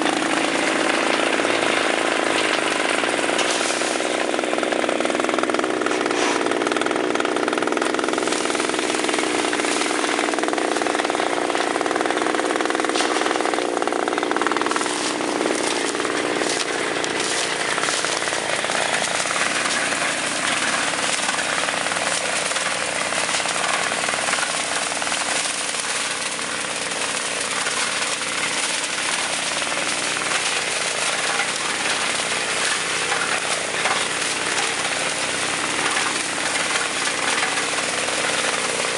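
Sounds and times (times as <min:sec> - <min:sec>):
cutter clattering through cane: 0:00.0 - 0:38.9
diesel tractor engine under load: 0:00.0 - 0:38.9.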